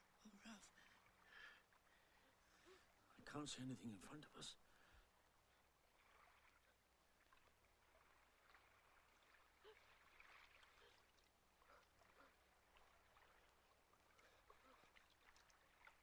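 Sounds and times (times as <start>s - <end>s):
sea water splashing: 0.0s - 3.1s, 4.8s - 16.0s.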